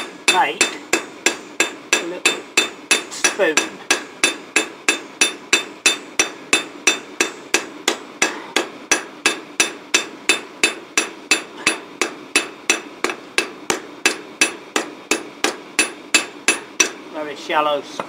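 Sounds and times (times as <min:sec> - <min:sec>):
hammer beating steel on anvil: 0:00.0 - 0:17.1.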